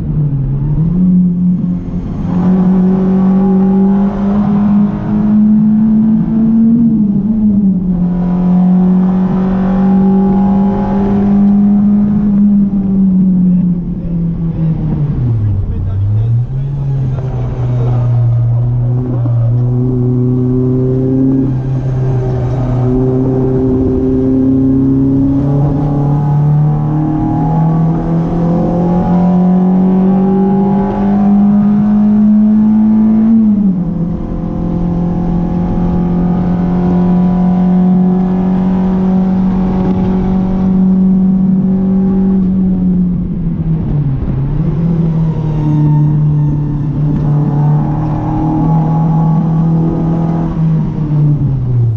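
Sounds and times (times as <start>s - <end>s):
car engine under load: 0.0s - 51.9s.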